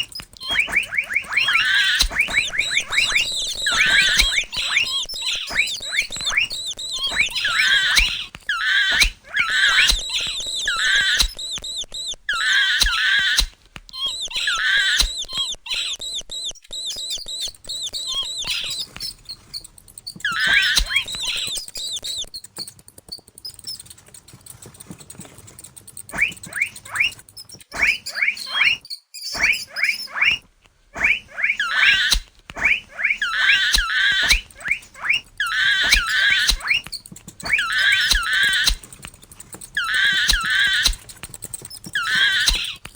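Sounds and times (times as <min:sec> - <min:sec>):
rapid short chirps: 0:00.0 - 0:30.4, 0:31.0 - 0:42.9
mouse squeaking: 0:00.0 - 0:42.9.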